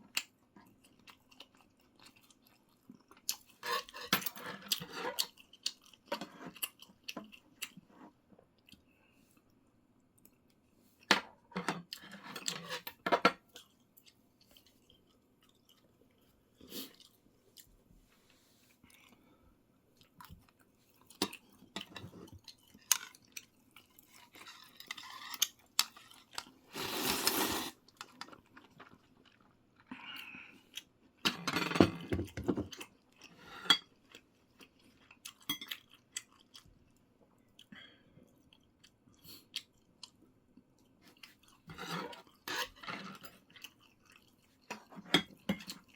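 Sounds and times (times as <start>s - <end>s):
person chewing food: 0.1s - 10.6s, 13.4s - 17.7s, 18.7s - 31.2s, 32.0s - 45.9s.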